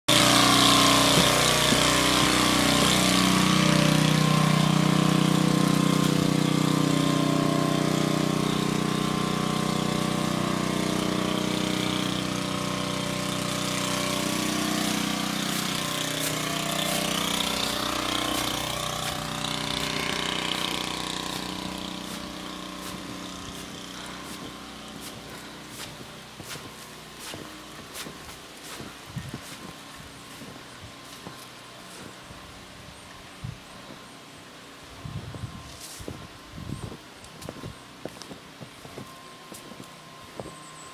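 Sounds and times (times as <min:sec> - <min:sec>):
small engine humming: 0:00.1 - 0:40.9.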